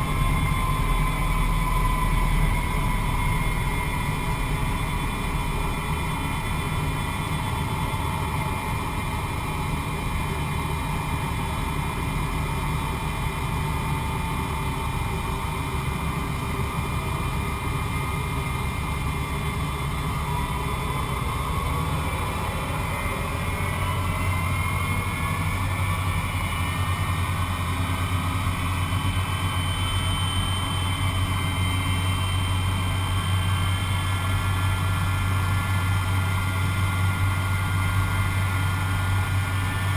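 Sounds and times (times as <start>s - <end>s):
engine whines rising in pitch: 0.0s - 39.9s
jet engine rumble: 0.0s - 39.9s.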